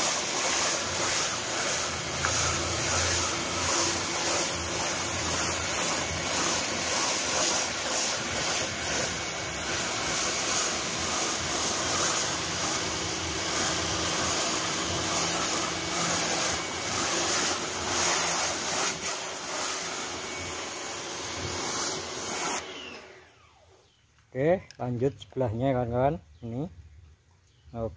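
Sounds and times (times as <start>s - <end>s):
pressure washer jet hissing: 0.0s - 23.8s.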